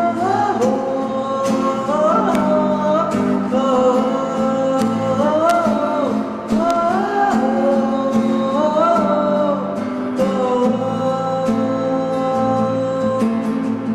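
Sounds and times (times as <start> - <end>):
acoustic guitar: 0.0 - 13.9
man singing: 0.0 - 13.9.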